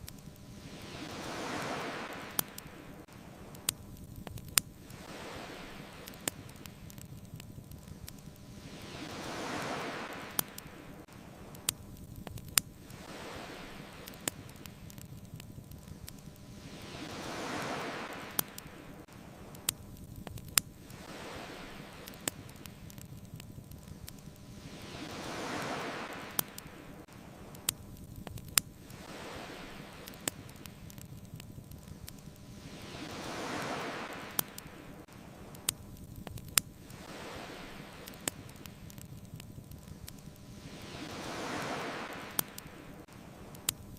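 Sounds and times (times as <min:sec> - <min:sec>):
bonfire popping and crackling: 0:00.0 - 0:43.9
ocean waves washing ashore: 0:00.0 - 0:43.9.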